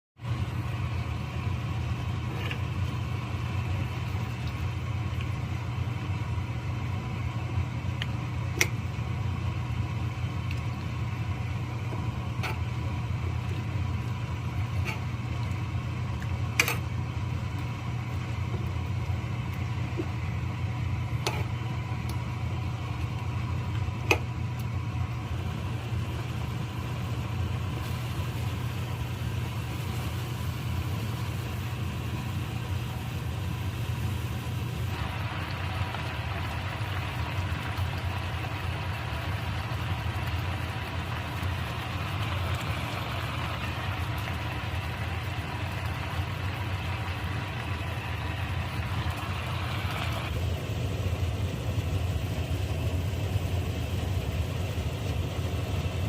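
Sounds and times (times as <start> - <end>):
low mechanical hum: 0.1 - 56.0.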